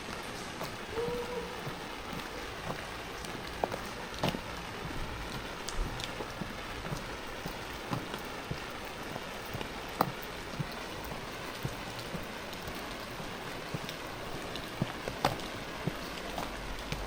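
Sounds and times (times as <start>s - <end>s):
sharp drips and taps: 0.0s - 0.9s, 1.6s - 17.0s
steady rain hiss: 0.0s - 17.0s.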